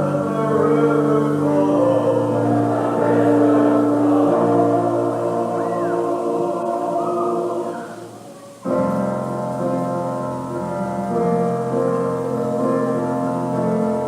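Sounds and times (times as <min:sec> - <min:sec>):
choir singing held chords: 0:00.0 - 0:14.0
piano accompaniment: 0:00.0 - 0:14.0.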